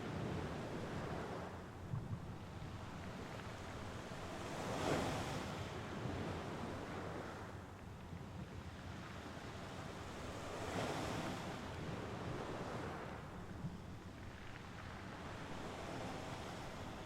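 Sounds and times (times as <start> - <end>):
sea waves washing ashore: 0.0 - 7.8, 8.5 - 17.0.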